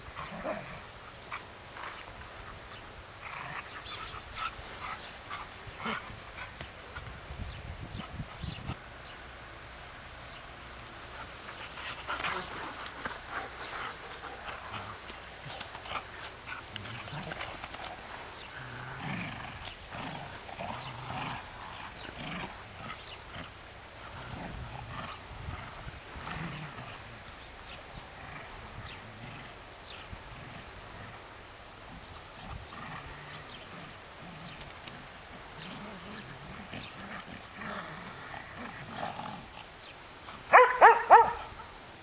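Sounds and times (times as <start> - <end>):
dogs growling in play: 0.0 - 2.4, 3.1 - 7.0, 11.1 - 40.6.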